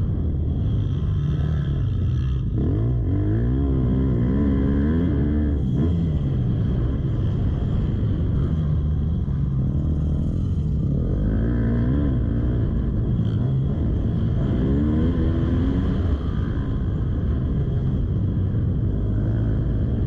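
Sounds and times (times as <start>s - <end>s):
steady low rumble: 0.0s - 20.0s
motocross bike engine revving: 0.5s - 17.3s.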